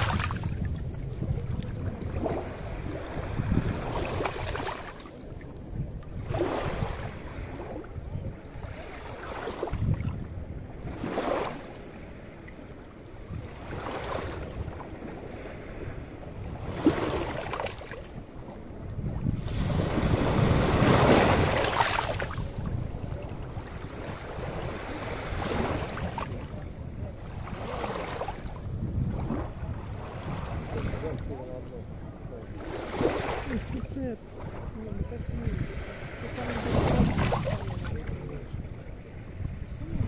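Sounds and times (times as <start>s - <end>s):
waves washing onto beach: 0.0s - 40.0s
wind rumble on microphone: 0.0s - 40.0s.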